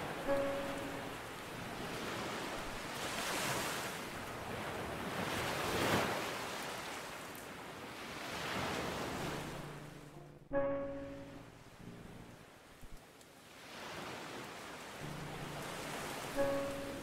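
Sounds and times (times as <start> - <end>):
ocean waves washing: 0.0 - 17.0.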